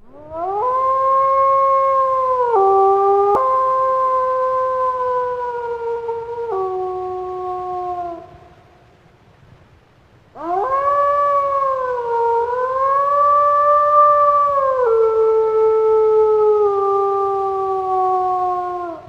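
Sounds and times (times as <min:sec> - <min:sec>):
werewolf howl: 0:00.0 - 0:08.4, 0:10.4 - 0:19.0.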